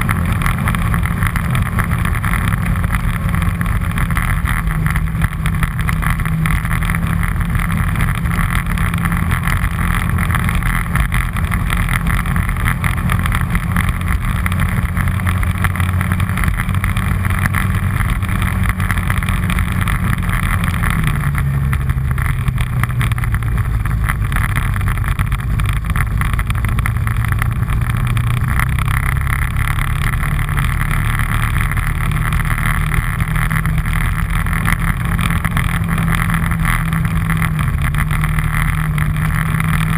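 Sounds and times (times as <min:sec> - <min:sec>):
all-terrain vehicle engine running: 0:00.0 - 0:39.9.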